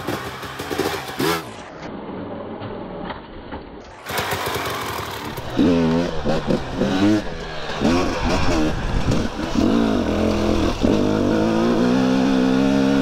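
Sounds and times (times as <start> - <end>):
dirt bike engine passing: 0.0 - 2.1, 3.9 - 13.0.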